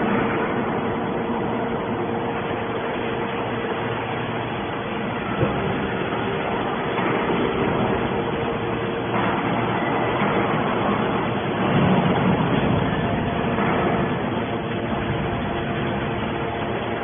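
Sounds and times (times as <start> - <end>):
baler mechanical hum and rumble: 0.0 - 17.0.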